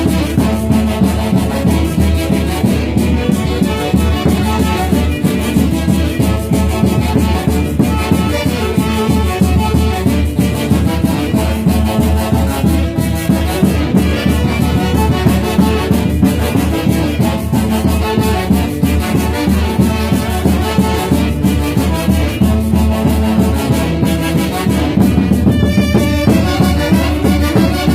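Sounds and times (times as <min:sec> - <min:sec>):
horn section playing: 0:00.0 - 0:27.9
steady driving beat: 0:00.0 - 0:27.9.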